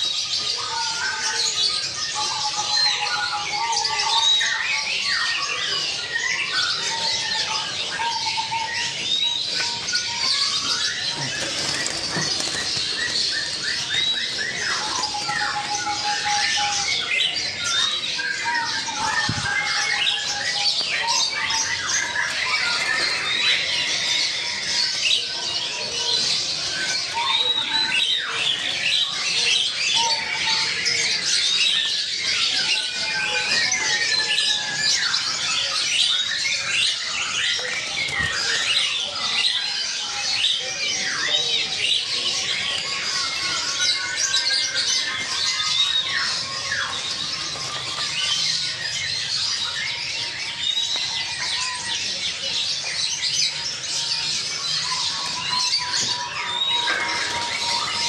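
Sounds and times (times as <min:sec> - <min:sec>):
birds chirping and squawking: 0:00.0 - 0:58.0.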